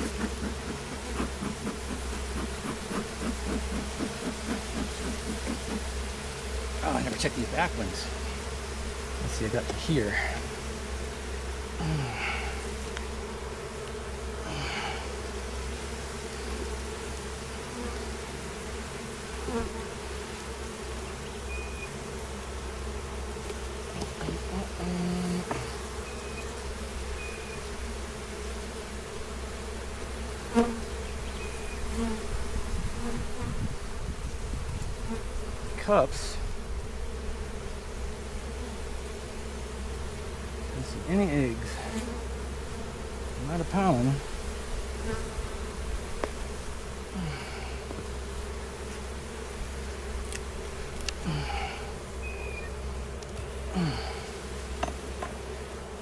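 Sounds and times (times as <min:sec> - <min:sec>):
honey bees buzzing: 0:00.0 - 0:56.0.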